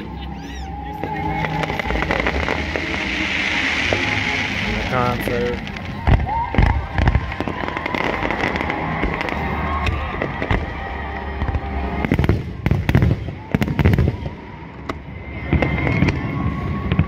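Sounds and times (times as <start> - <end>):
fireworks crackling and rumbling: 0.0 - 17.0
fireworks sharp bangs: 1.0 - 17.0.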